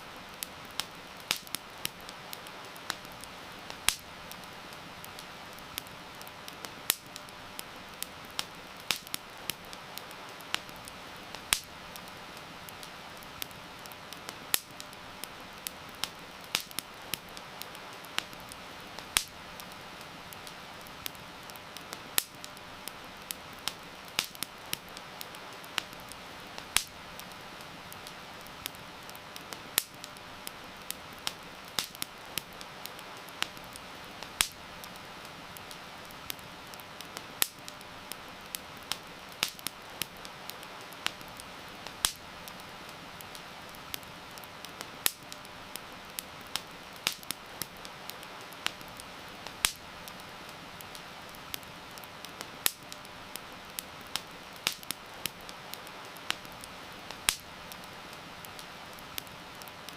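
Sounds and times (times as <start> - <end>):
campfire crackling: 0.0 - 59.9
falling rain hiss: 0.0 - 59.9.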